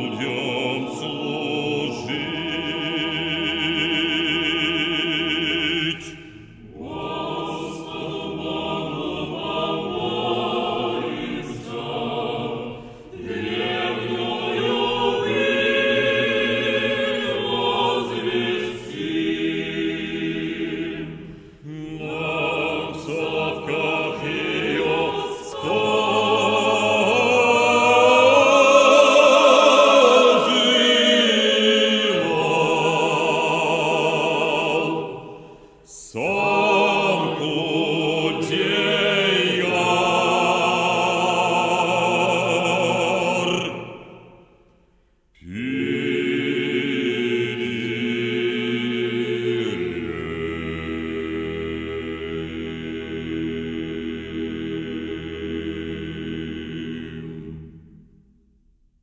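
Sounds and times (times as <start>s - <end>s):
choir voices: 0.0s - 58.4s.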